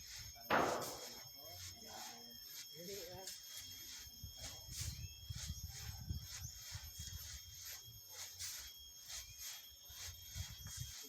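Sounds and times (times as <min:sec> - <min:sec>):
sand rasping through a sieve: 0:00.0 - 0:11.0.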